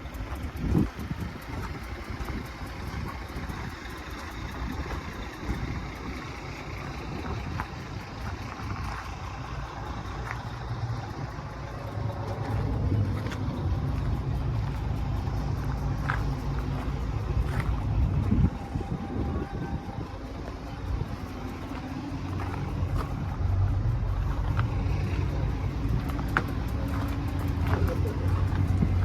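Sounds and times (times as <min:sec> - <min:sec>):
truck engine humming: 0:00.0 - 0:29.0.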